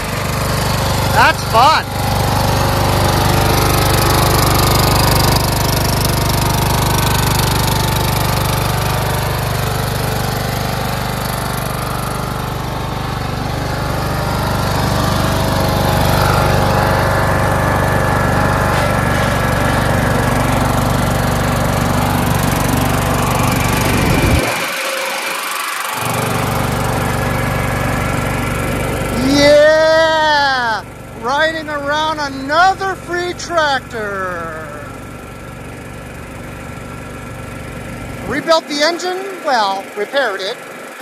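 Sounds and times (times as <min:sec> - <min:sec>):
lawn tractor engine running: 0:00.0 - 0:41.0.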